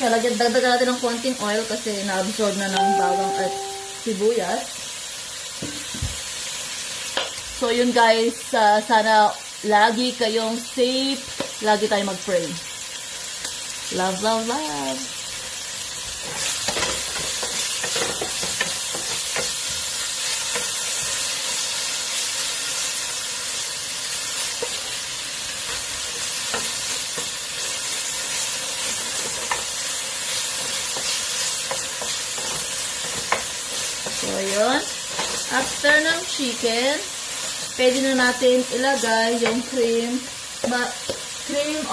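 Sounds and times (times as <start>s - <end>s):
chicken sizzling in oil: 0.0s - 41.9s.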